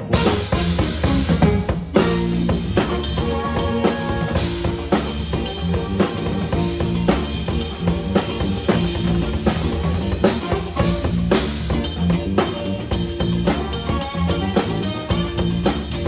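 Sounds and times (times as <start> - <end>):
backing track with bass line: 0.0 - 16.0
drum kit groove: 0.0 - 16.0.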